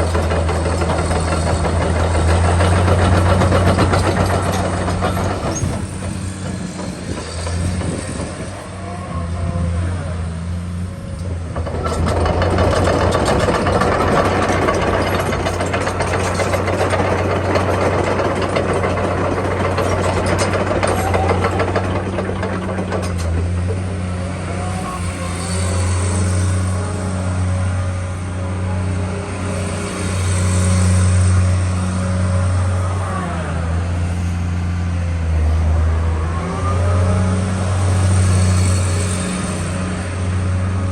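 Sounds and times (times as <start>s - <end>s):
busy machine noise: 0.0s - 40.9s
excavator diesel engine running: 0.0s - 40.9s.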